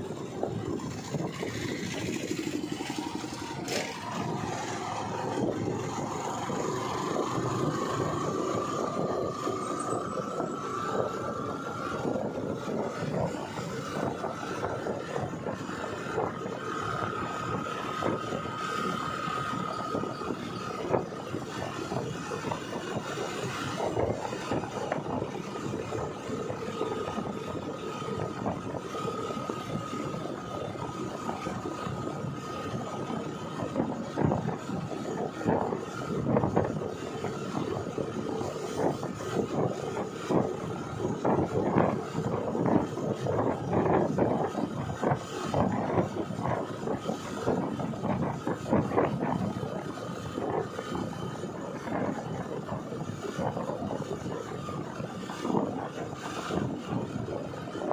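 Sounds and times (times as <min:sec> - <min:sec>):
motorcycle engine at speed: 0:00.0 - 0:57.9
rushing air: 0:00.0 - 0:57.9.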